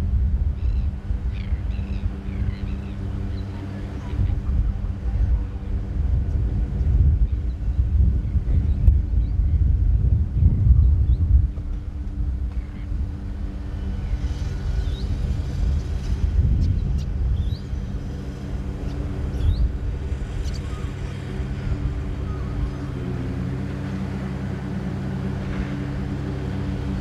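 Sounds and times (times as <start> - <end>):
motor drone: 0.0 - 27.0.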